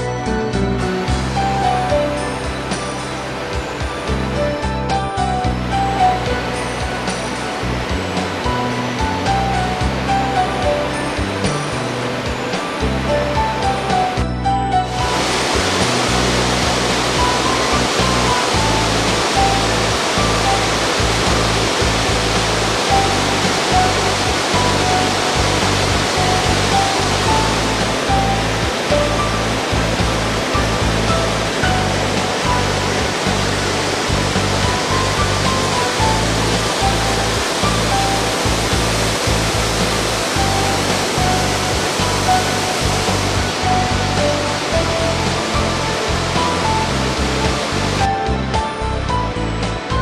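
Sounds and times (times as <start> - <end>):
waterfall rushing: 0.0 - 49.2
low sustained music notes: 0.0 - 50.0.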